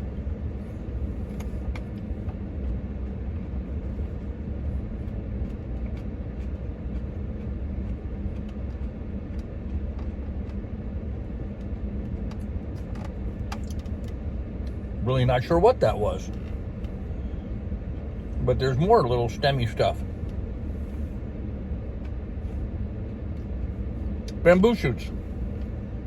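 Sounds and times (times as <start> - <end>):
truck rumble: 0.0 - 26.0.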